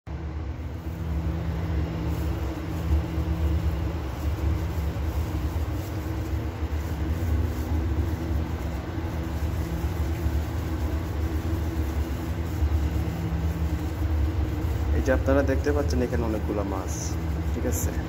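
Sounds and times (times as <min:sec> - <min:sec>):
low machine hum: 0:00.1 - 0:18.0.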